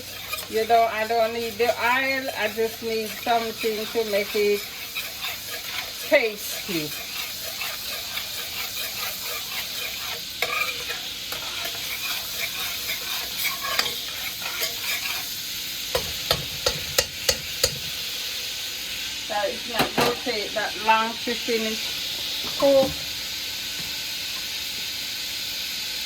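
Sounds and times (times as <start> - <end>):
butter sizzling in a pot: 0.0 - 26.0.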